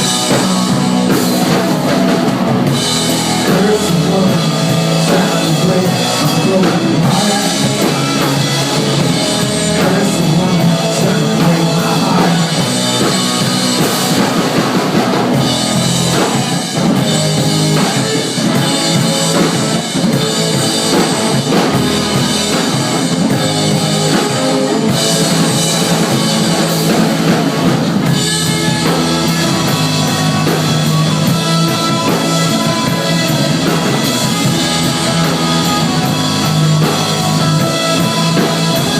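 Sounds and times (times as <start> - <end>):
distorted electric guitars: 0.0 - 38.9
drum kit playing: 0.0 - 38.9.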